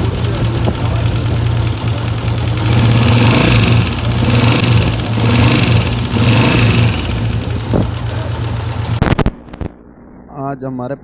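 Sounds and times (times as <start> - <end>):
strange noises from cylinder head: 0.0 - 9.7
motorcycle engine running: 0.0 - 10.3.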